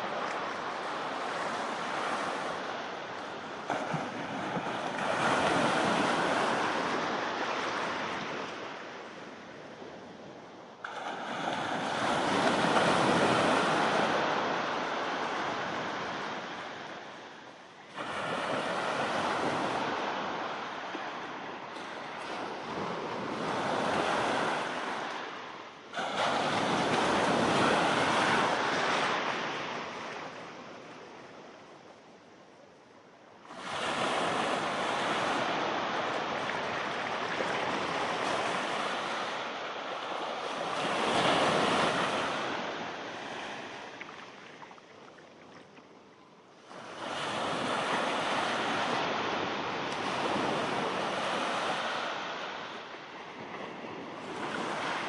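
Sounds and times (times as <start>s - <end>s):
surf washing in: 0.0s - 31.5s, 33.4s - 45.8s, 46.6s - 55.0s.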